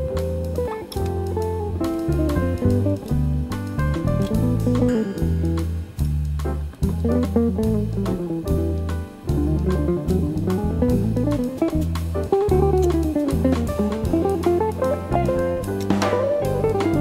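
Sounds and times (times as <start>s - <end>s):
bass line: 0.0s - 17.0s
plucked guitar melody: 0.0s - 17.0s.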